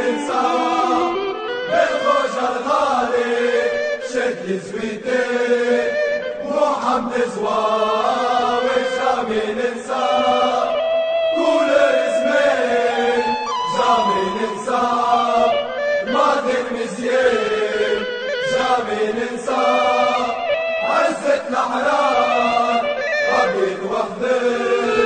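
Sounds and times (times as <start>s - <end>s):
crowd singing chant in unison: 0.0s - 25.0s.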